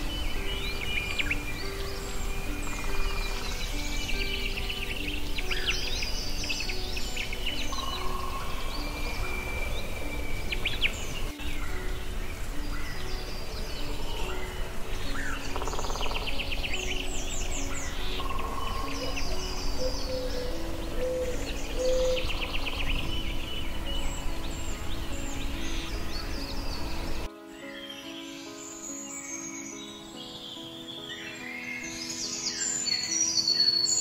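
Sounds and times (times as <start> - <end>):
forest birds chirping: 0.0 - 34.0
soft low music notes: 0.0 - 34.0.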